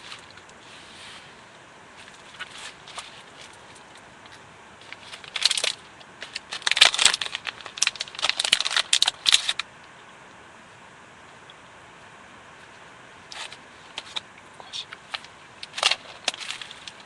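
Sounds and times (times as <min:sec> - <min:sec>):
rustling and crinkling: 0:00.0 - 0:09.7, 0:12.6 - 0:17.0.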